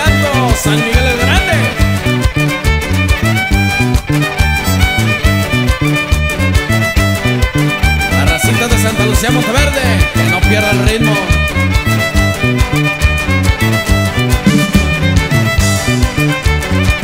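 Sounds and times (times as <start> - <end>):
rhythmic bass beat: 0.0 - 17.0
violin melody: 0.0 - 17.0.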